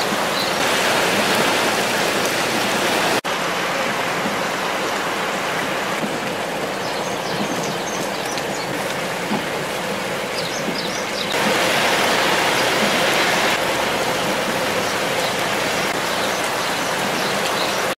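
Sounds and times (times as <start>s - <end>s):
heavy rain on road: 0.0s - 18.0s
running water: 0.0s - 18.0s.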